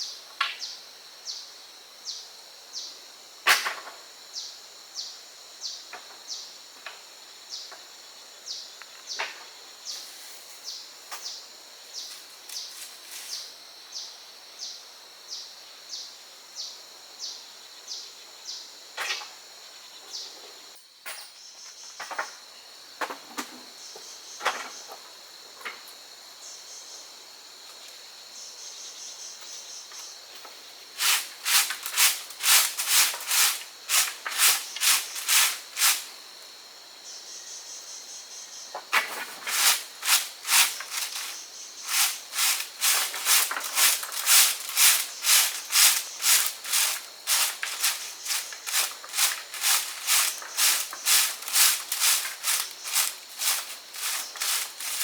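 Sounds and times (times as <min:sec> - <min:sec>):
continuous high insect trill: 0:00.0 - 0:55.0
insects chirping: 0:00.0 - 0:55.0.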